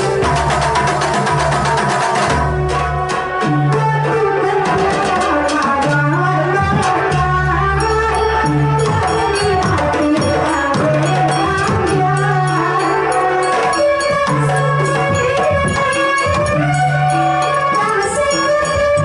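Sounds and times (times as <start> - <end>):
driving drum rhythm: 0.0 - 19.0.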